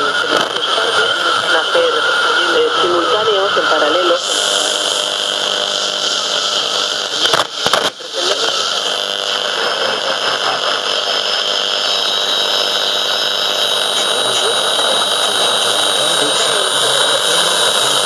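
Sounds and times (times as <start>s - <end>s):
constant hum: 0.0s - 18.0s
radio crackle: 0.0s - 18.0s
radio static buzzing: 0.0s - 18.0s.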